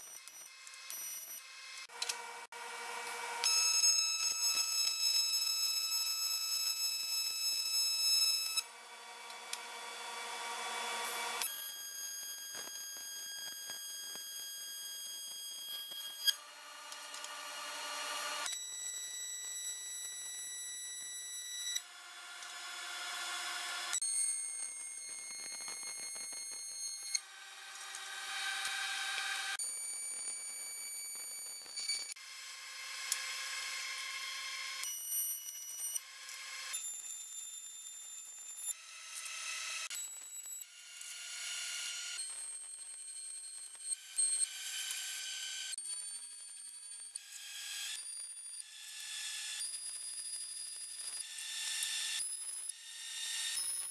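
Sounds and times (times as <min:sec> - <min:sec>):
welding arc buzzing: 0:00.0 - 0:46.6.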